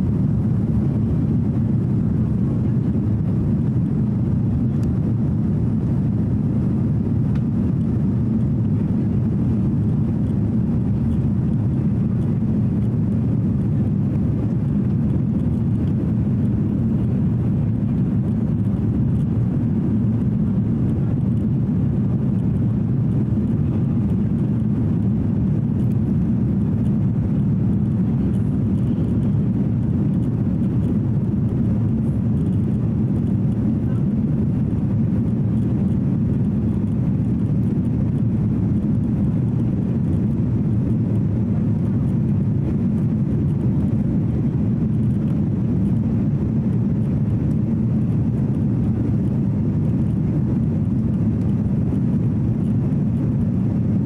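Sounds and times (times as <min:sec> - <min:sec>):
airplane cabin engine rushing noise: 0:00.0 - 0:54.0.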